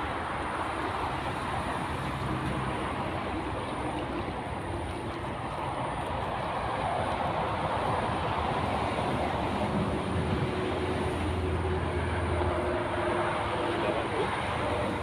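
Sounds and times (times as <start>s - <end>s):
heavy vehicle engine hum: 0.0s - 15.0s
road traffic rumble: 0.0s - 15.0s.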